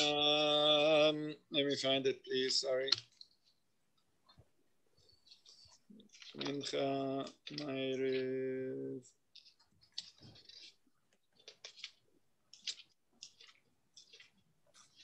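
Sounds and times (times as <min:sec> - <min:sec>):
faint clicks and rustles: 0:01.7 - 0:15.0.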